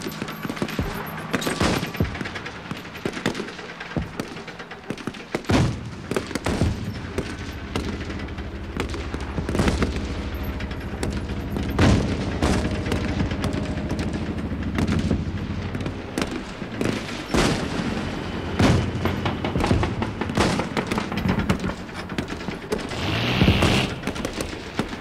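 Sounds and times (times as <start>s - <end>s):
rapid automatic gunfire: 0.0s - 25.0s.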